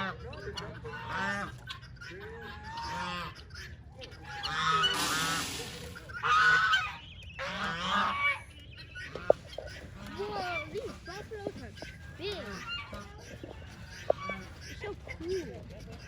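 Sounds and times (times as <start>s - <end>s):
fowl honking: 0.0s - 15.6s.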